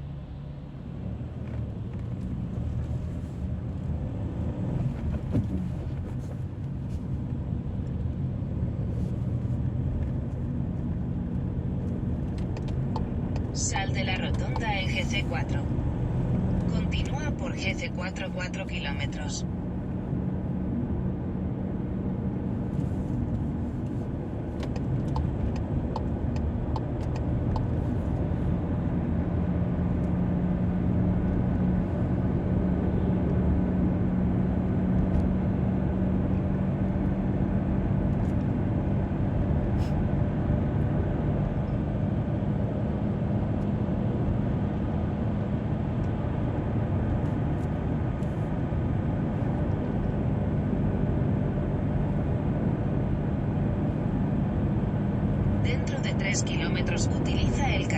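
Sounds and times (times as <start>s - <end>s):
car engine and tyre noise: 0.0s - 57.9s.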